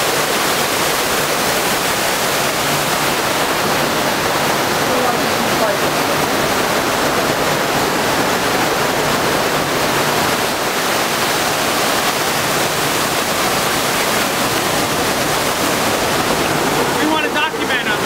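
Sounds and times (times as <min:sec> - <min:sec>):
turbulent water rushing: 0:00.0 - 0:18.0.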